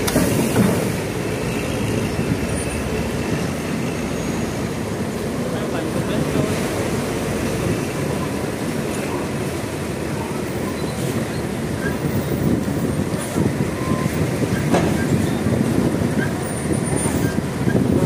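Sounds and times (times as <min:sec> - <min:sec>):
heavy trucks rumbling on steel ramp: 0:00.0 - 0:18.0.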